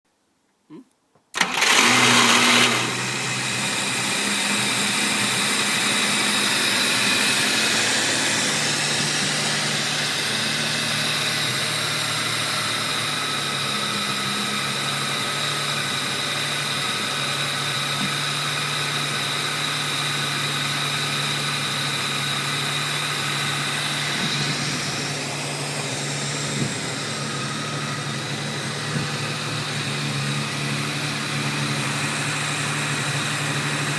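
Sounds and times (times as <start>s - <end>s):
petrol engine starting and running: 1.3s - 33.9s.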